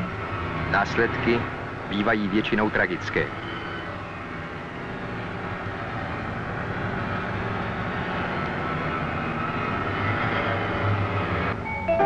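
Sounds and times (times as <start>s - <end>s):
vehicle running: 0.0s - 12.0s.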